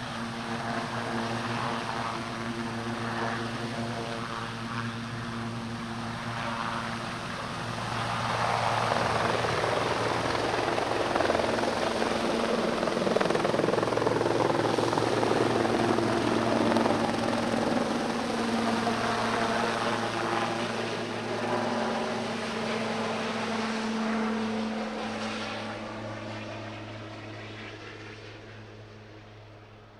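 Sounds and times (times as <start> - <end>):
helicopter rotor and turbine whine: 0.0 - 29.9.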